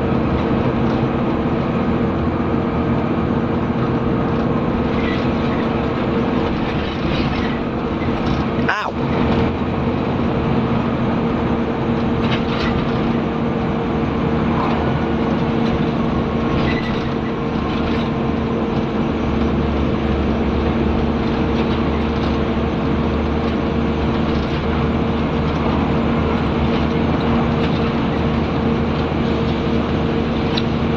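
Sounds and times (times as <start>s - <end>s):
bus diesel engine droning: 0.0s - 30.9s.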